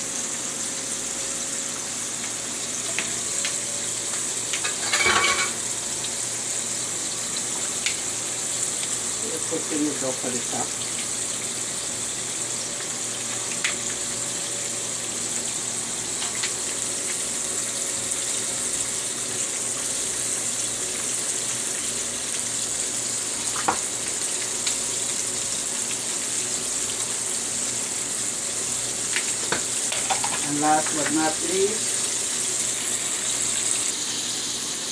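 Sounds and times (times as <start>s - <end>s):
pot simmering watery hiss: 0.0s - 34.9s.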